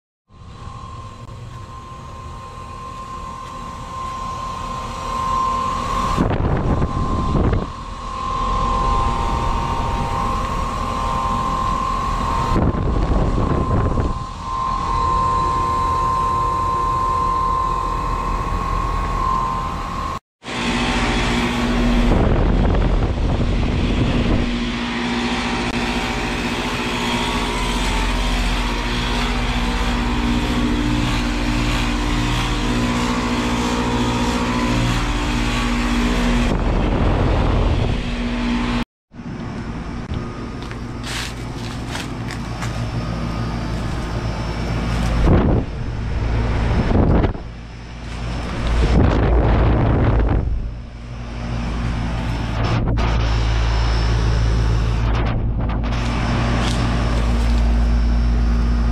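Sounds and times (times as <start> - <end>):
heat pump humming: 0.3 - 58.9
high whine: 0.3 - 58.9.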